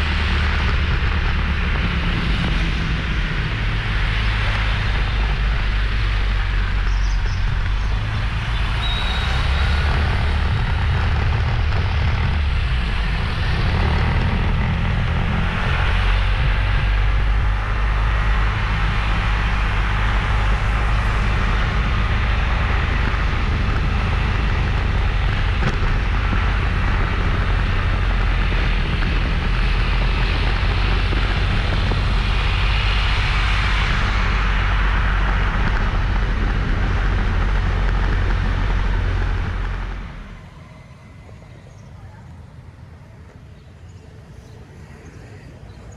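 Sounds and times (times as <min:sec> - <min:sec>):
wind rumbling on microphone: 0:00.0 - 0:45.9.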